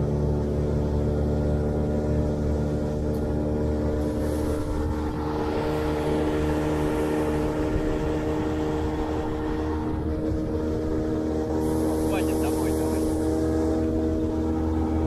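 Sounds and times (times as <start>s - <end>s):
outboard motor running: 0.0s - 15.0s
water rushing along hull: 0.0s - 15.0s.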